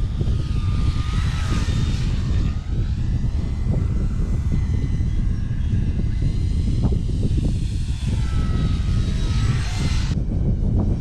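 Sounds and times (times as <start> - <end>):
electric model plane motor whining: 0.0 - 11.0
wind buffeting microphone: 0.0 - 11.0.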